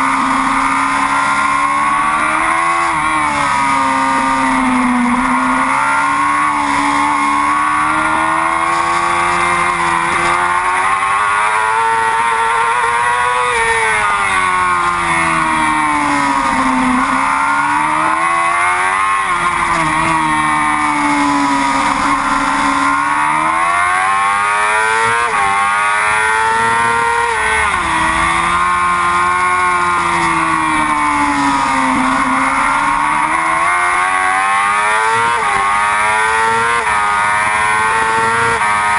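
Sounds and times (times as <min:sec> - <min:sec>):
sport bike engine revving: 0:00.0 - 0:38.9.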